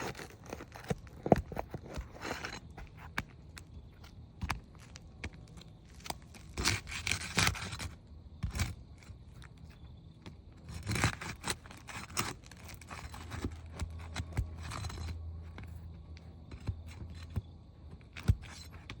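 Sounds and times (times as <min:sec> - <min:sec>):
roofing shingles scraping and tearing: 0:00.0 - 0:09.7, 0:10.5 - 0:19.0.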